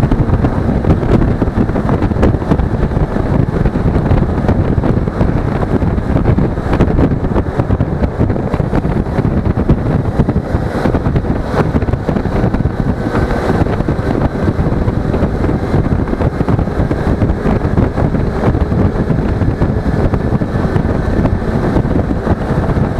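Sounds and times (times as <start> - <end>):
motorcycle engine running: 0.0 - 22.9
wind buffeting microphone: 0.0 - 22.9.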